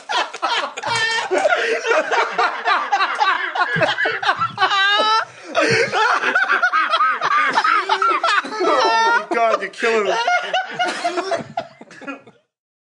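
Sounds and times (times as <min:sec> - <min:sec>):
men laughing: 0:00.0 - 0:12.5.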